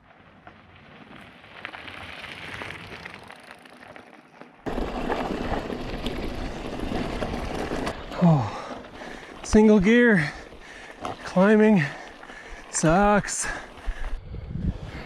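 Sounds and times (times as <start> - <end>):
bike tyres ticking over grit: 0.0 - 14.2
tyres rumbling and rattling: 0.8 - 14.1.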